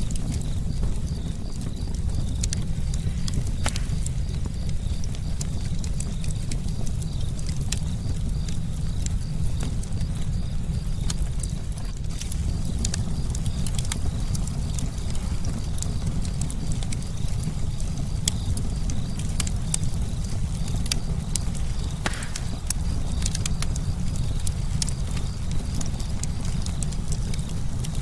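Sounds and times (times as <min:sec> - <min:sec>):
campfire pops and snaps: 0:00.0 - 0:28.0
low rumble of burning fire: 0:00.0 - 0:28.0.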